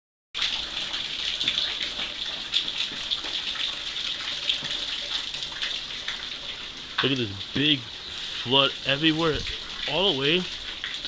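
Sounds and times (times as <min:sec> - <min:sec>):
floodwater rushing: 0:00.5 - 0:11.0.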